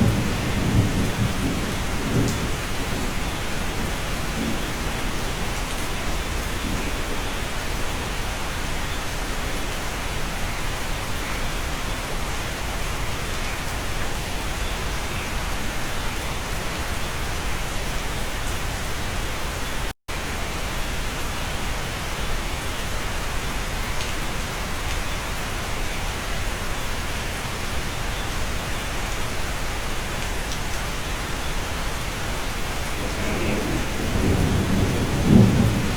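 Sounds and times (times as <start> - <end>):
steady dense rain: 0.0 - 35.9.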